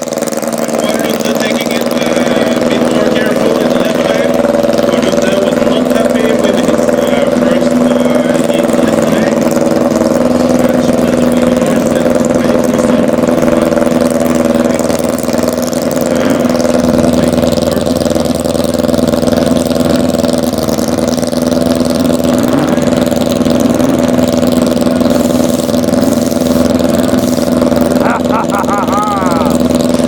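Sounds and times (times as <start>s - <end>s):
car engine running steadily: 0.0s - 30.0s.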